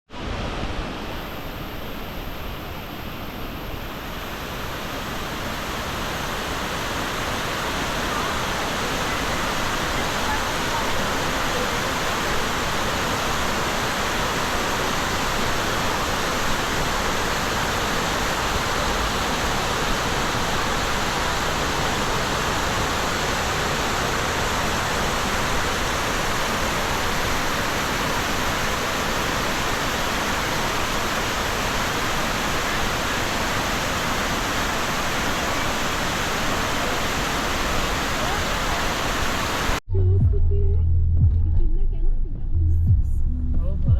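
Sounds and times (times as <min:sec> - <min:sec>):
waterfall rushing: 0:00.1 - 0:39.8.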